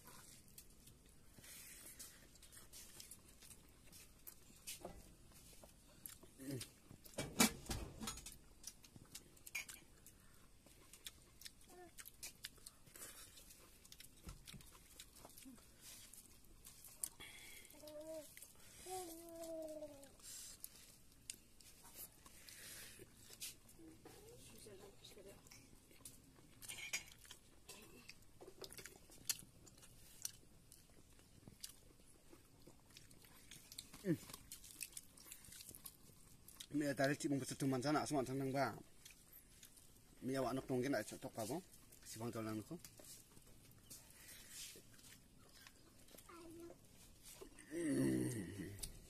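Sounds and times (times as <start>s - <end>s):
soft chewing: 0.0s - 49.0s.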